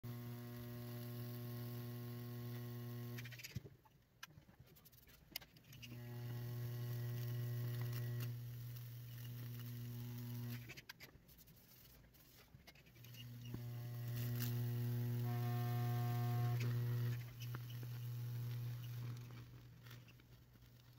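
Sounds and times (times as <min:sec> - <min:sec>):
electrical hum and buzz: 0:00.0 - 0:03.6, 0:05.6 - 0:10.9, 0:11.7 - 0:20.9.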